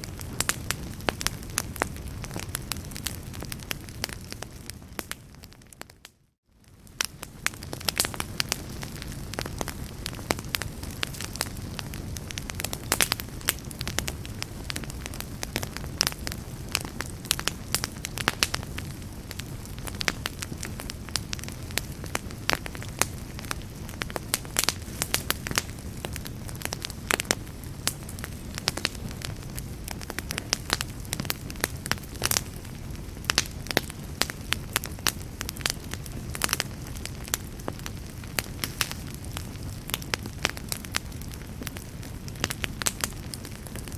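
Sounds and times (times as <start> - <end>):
wood fire crackling: 0.0 - 43.9
sharp pops of fire: 6.6 - 43.9.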